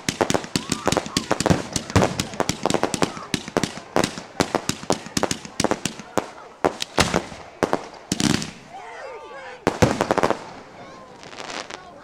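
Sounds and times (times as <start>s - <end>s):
fireworks pops and bangs: 0.0s - 8.7s, 9.6s - 12.0s.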